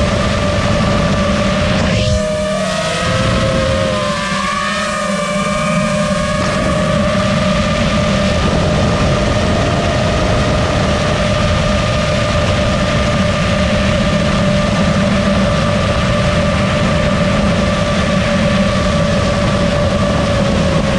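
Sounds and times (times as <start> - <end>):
rushing air: 0.0 - 20.8
quadcopter motors whining: 0.0 - 20.9.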